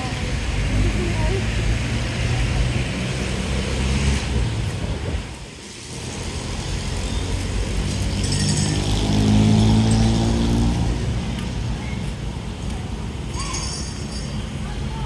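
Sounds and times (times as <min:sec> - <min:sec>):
passing vehicle engine hum: 0:00.0 - 0:13.3
low traffic rumble: 0:00.0 - 0:15.0.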